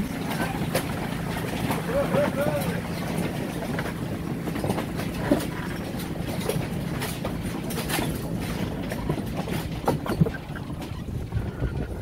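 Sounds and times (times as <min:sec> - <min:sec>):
tractor engine running: 0:00.0 - 0:12.0
wagons knocking and rattling: 0:00.0 - 0:12.0.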